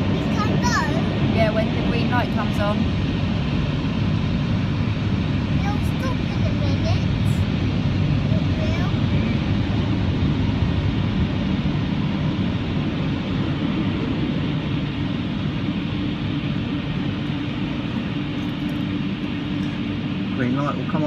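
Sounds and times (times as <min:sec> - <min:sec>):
air dryers roaring: 0:00.0 - 0:21.0
steady hum: 0:00.0 - 0:21.0.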